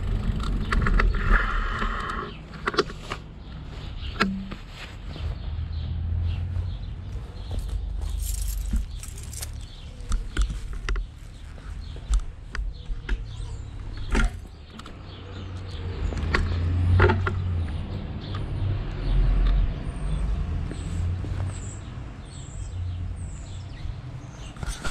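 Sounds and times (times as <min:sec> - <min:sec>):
bird chirping: 0:03.4 - 0:24.9.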